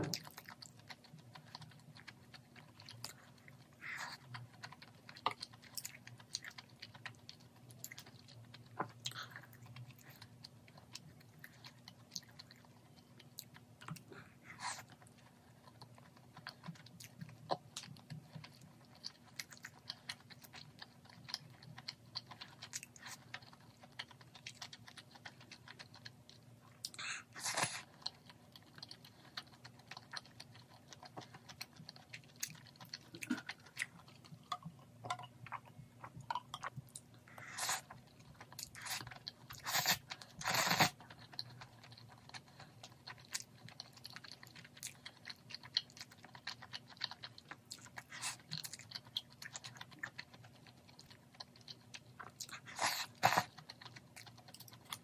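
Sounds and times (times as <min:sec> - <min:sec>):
faint low hum: 0:00.0 - 0:55.0
wet chewing and mouth smacks: 0:00.0 - 0:55.0.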